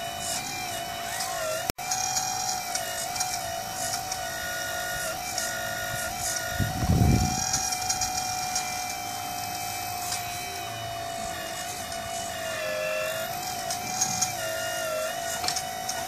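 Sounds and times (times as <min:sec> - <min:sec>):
hydraulic pump whining: 0:00.0 - 0:16.0.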